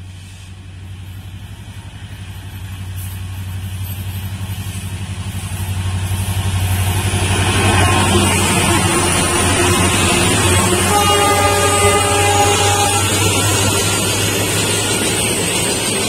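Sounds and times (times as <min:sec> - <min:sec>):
locomotive engines throbbing: 0:00.0 - 0:16.0.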